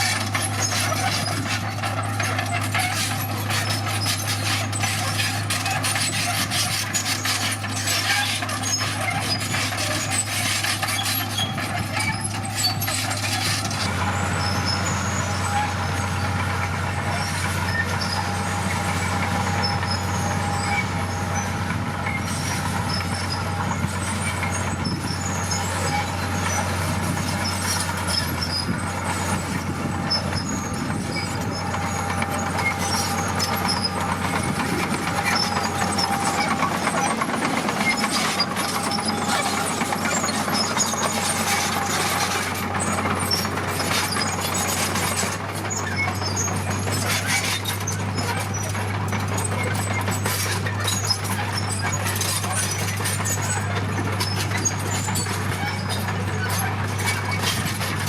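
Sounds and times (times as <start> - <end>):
machinery whine: 0.0 - 49.4
diesel engine drone: 0.0 - 58.0.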